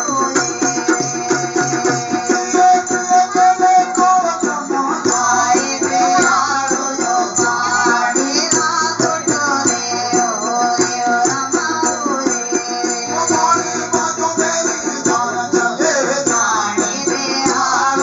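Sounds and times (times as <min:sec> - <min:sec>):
person singing: 0:00.0 - 0:18.0.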